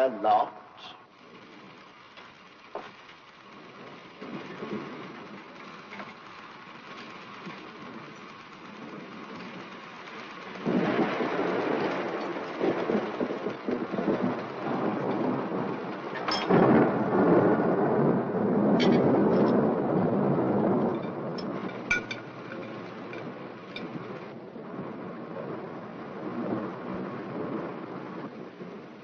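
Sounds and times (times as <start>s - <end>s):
rain: 0.0s - 29.0s
thunder rumbling: 0.0s - 29.0s.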